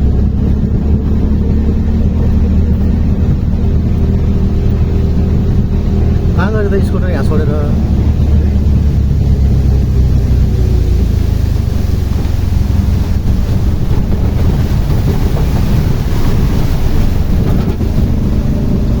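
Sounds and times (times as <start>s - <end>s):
motor and road noise: 0.0s - 19.0s
wind buffeting microphone: 0.0s - 19.0s.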